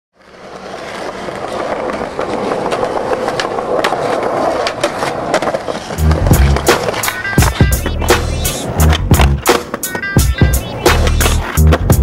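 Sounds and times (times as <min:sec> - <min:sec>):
skateboard wheels on rough pavement: 0:00.2 - 0:12.0.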